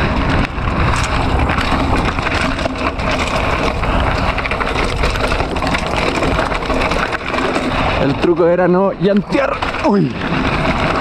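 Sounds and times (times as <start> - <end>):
bike rattling: 0.0 - 11.0
bike tyres crunching over rocks: 0.0 - 11.0.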